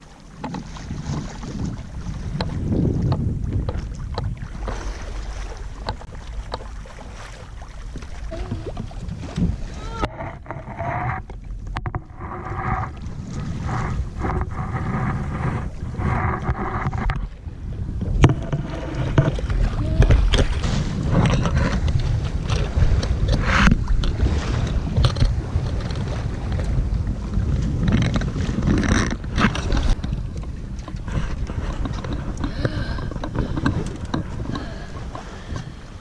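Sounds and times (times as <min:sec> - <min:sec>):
water rushing along hull: 0:00.0 - 0:36.0
wind buffeting microphone: 0:00.0 - 0:36.0.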